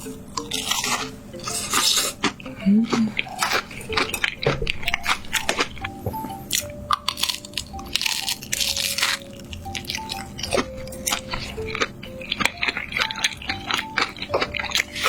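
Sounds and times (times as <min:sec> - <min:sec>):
crunchy food being chewed: 0:00.0 - 0:15.0
light background music: 0:00.0 - 0:15.0.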